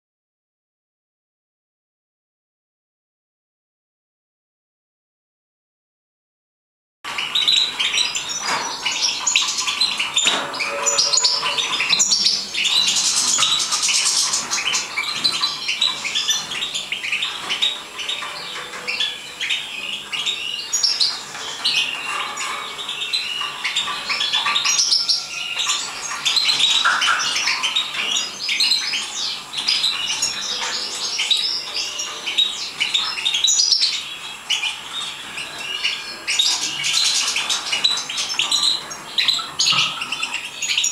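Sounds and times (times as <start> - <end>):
finches chirping and twittering: 7.1 - 40.9.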